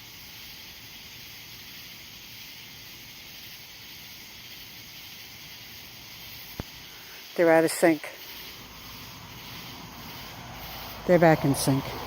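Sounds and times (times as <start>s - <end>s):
high-pitched hissing drone: 0.0s - 12.0s.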